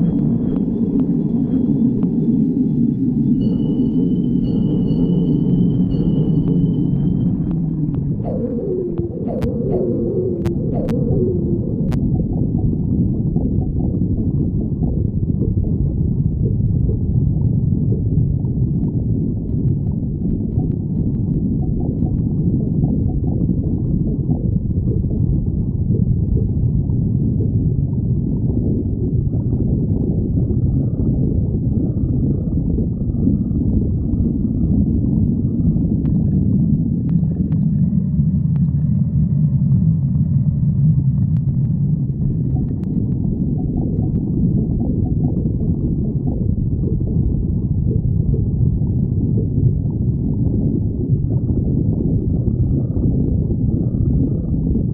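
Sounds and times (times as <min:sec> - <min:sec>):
stomach growling: 0:05.9 - 0:54.9.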